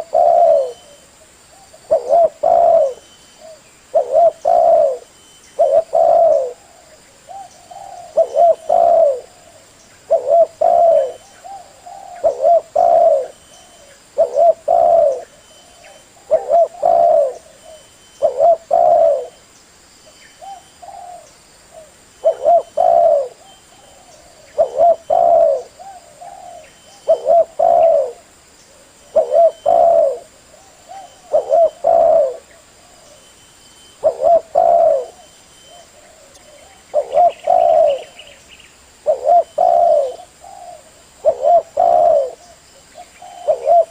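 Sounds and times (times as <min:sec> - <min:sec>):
dove cooing: 0:00.0 - 0:19.4, 0:20.4 - 0:38.4, 0:39.0 - 0:43.9.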